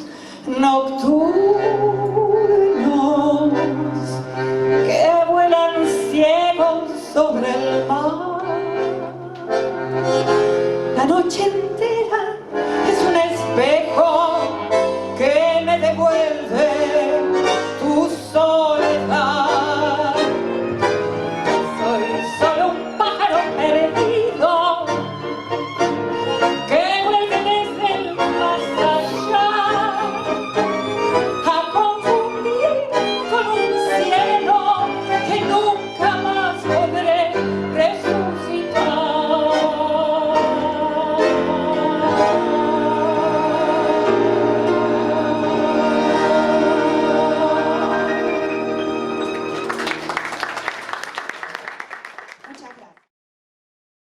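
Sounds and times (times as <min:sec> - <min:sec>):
tango quartet playing: 0:00.0 - 0:50.5
sliding violin melody: 0:01.0 - 0:50.2.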